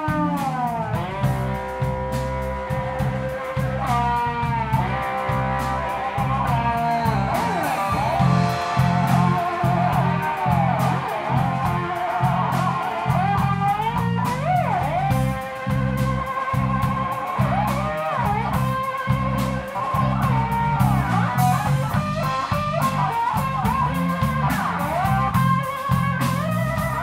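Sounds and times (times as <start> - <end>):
bass guitar: 0.0 - 27.0
drums with cymbal beat: 0.0 - 27.0
electric guitar solo: 0.0 - 27.0.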